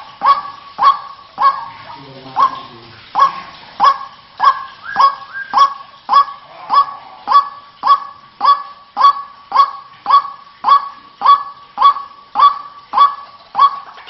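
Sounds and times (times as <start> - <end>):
waterhen calls: 0.0 - 14.0.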